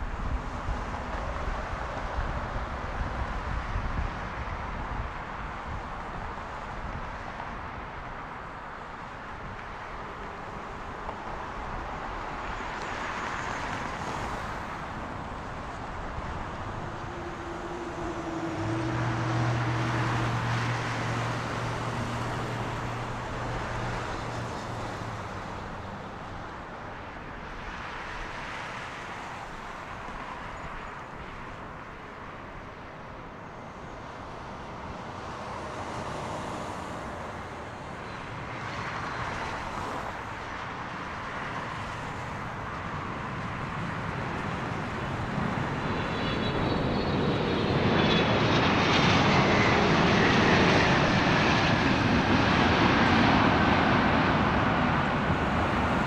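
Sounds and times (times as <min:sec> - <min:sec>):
high jet engine whine: 0:00.0 - 0:56.0
jet engines rushing: 0:00.0 - 0:56.0
road traffic passing: 0:00.0 - 0:56.0.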